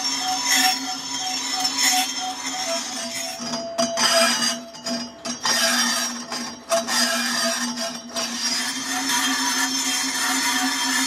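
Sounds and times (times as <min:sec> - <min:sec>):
cutting tool scraping metal: 0:00.0 - 0:11.0
lathe humming: 0:00.0 - 0:11.0.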